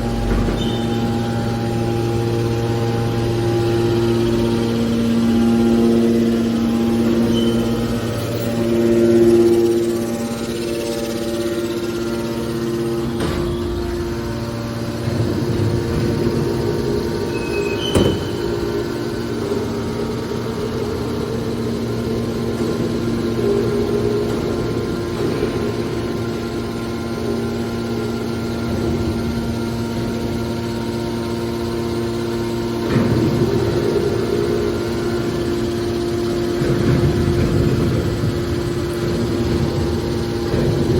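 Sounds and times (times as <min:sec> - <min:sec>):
compactor machine hum: 0:00.0 - 0:40.9.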